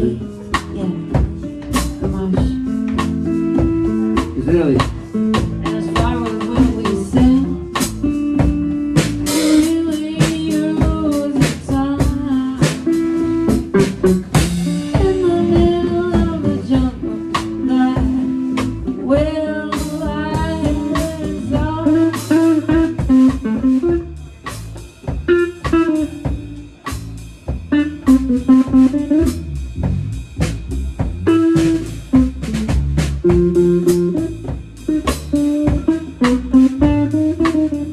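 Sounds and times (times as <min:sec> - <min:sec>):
bass notes: 0:00.0 - 0:37.9
blues guitar: 0:00.0 - 0:37.9
drum kit and cymbals: 0:00.0 - 0:37.9.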